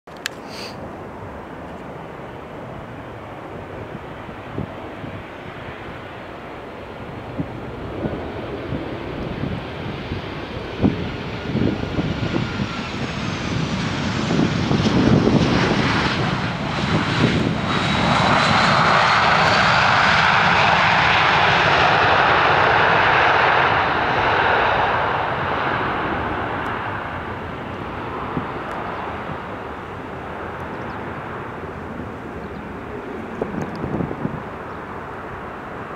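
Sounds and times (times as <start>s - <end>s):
jet engines with rising whine: 0.2s - 35.9s.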